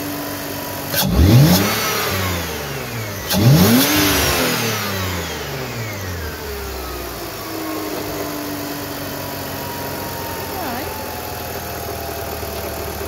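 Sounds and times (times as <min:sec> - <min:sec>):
car engine revving down: 0:00.0 - 0:13.0
supercharger high whine: 0:00.0 - 0:13.0.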